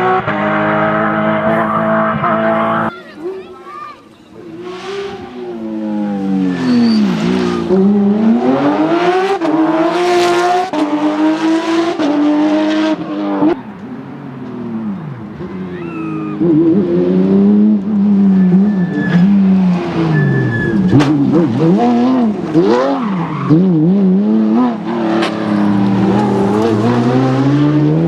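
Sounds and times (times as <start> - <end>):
car engine revving: 0.0 - 2.9, 4.4 - 13.6, 14.5 - 28.0.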